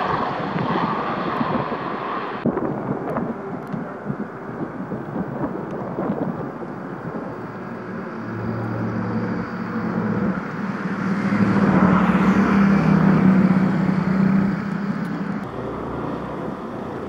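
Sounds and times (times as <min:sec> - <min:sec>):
propeller plane flying overhead: 0:00.0 - 0:17.0.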